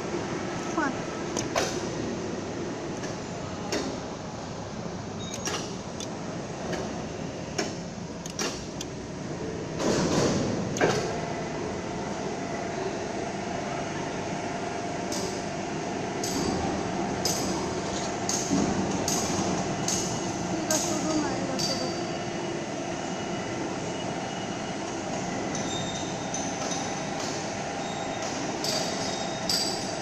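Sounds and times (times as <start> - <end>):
mechanical background noise: 0.0 - 30.0.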